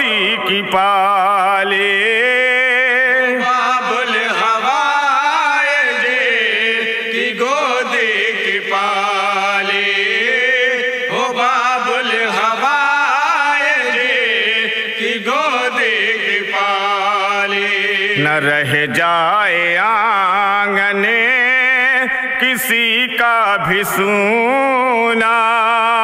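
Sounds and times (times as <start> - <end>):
man chanting devotional song: 0.0 - 26.0.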